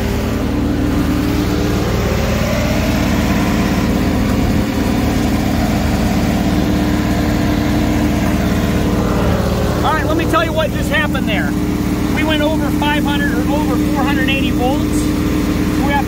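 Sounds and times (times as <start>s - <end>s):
generator engine running fast: 0.0s - 16.0s.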